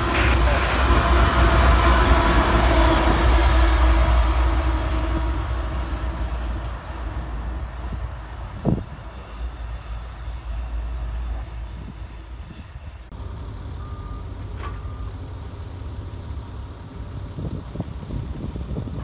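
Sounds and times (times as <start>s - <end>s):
distant locomotive rumble: 0.0s - 19.0s
freight train rumbling: 0.0s - 19.0s.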